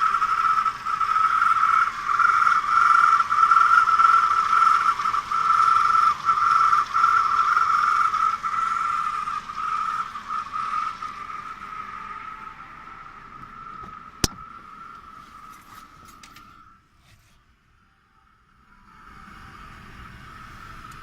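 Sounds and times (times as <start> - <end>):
high-pitched drive belt squeal: 0.0 - 21.0.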